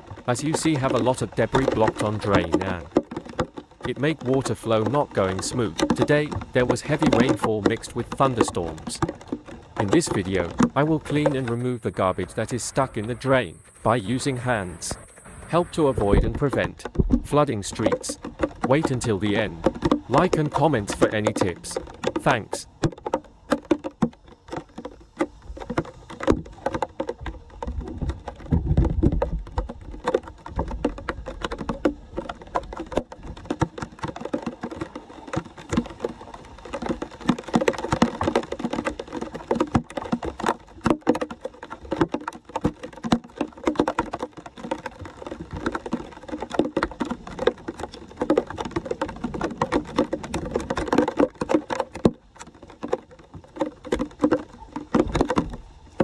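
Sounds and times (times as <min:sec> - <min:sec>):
rain pattering on flood water: 0:00.0 - 0:56.0.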